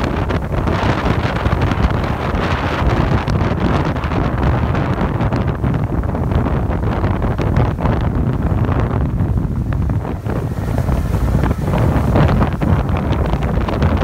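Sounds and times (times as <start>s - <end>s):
motorboat motor running: 0.0s - 14.0s
water rushing past hull: 0.0s - 14.0s
wind buffeting microphone: 0.0s - 14.0s.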